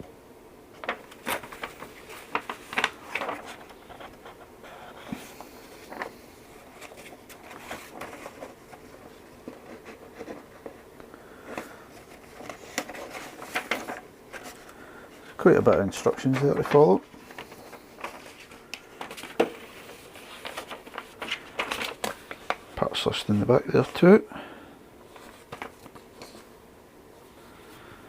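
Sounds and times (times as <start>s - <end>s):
paper pages rustling: 0.8s - 24.2s, 25.0s - 26.5s.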